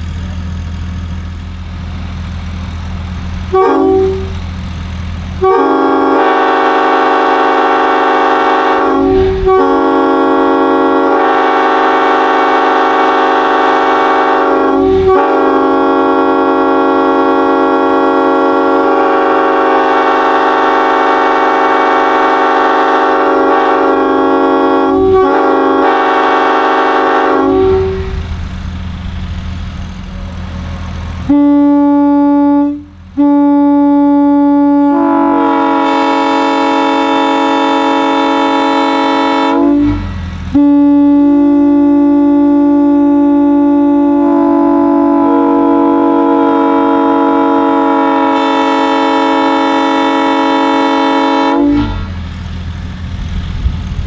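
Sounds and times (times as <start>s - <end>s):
locomotive air horn: 3.4s - 4.6s, 5.4s - 52.4s.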